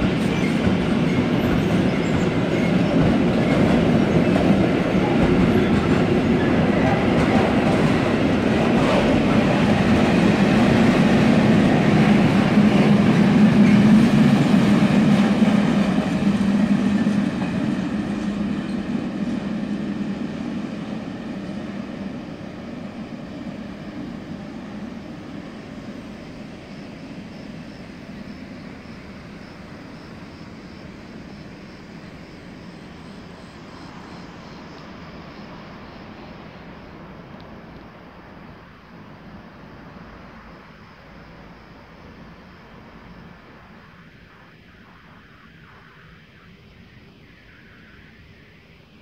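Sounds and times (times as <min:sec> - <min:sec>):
freight train wheels rumbling on rail: 0:00.0 - 0:44.1.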